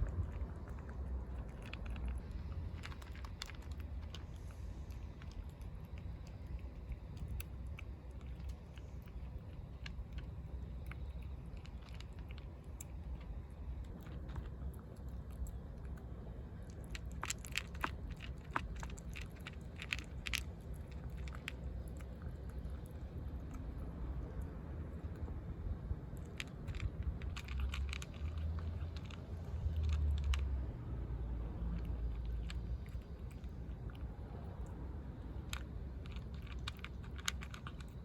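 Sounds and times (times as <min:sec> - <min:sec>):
cat crunching food: 0:00.0 - 0:38.0
low rumble: 0:00.0 - 0:38.0.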